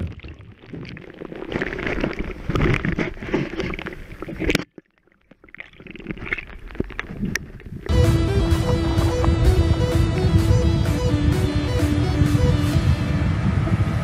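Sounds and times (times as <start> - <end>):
muffled underwater water churning: 0.0 - 13.9.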